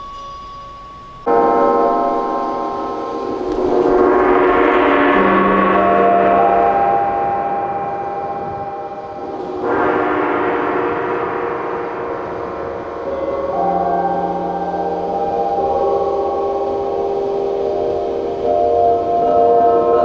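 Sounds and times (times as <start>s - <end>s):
gong ringing: 1.1s - 20.0s.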